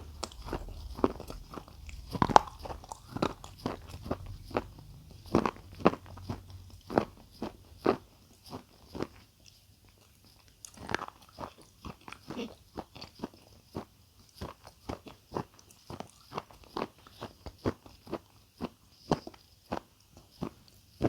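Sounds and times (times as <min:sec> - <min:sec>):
crunchy eating: 0:00.0 - 0:21.0.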